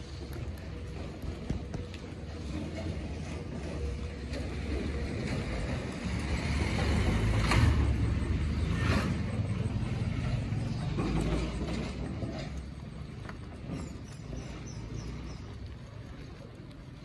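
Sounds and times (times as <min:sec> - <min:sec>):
road noise hiss: 0:00.0 - 0:17.0
vehicle rumble: 0:00.0 - 0:17.0.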